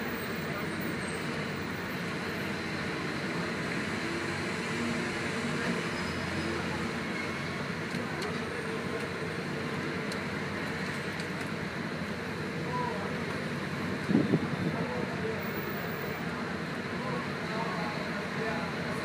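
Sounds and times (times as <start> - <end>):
bus engine drone and road noise: 0.0 - 19.0.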